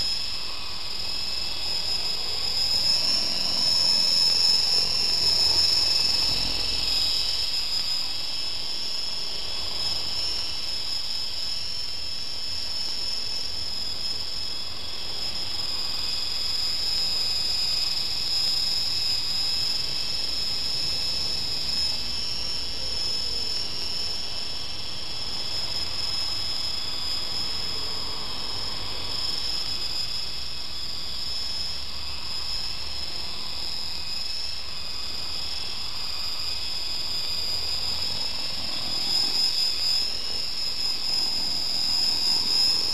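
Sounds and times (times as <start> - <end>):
rc helicopter whine: 0.0 - 42.9.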